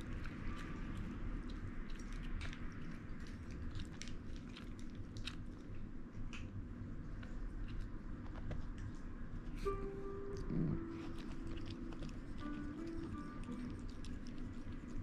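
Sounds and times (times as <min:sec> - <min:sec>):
cat chewing treat: 0:00.0 - 0:09.7, 0:10.3 - 0:15.0
low room hum: 0:00.0 - 0:15.0.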